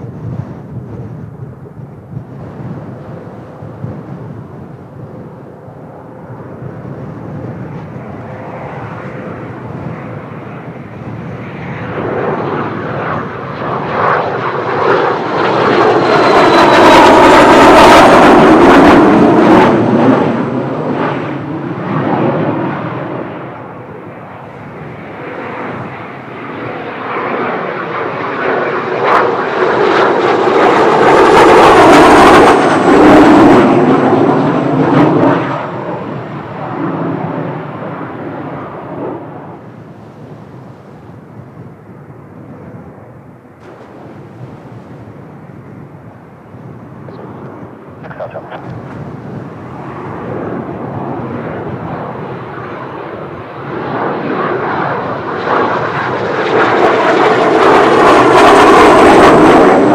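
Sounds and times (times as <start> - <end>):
jet aircraft passing low: 0.0 - 59.9.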